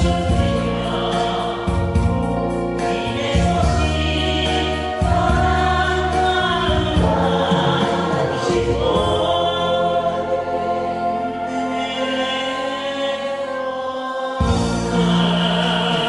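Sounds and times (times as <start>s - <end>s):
group of voices singing: 0.0s - 16.0s
instrumental backing track: 0.0s - 16.0s.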